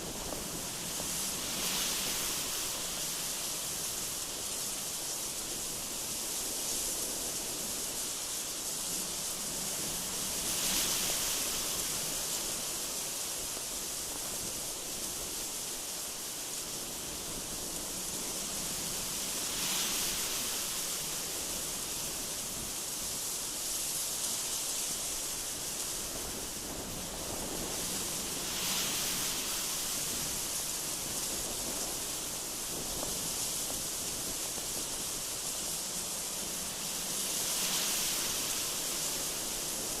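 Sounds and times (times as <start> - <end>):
strong gusty wind: 0.0 - 8.1, 8.8 - 40.0.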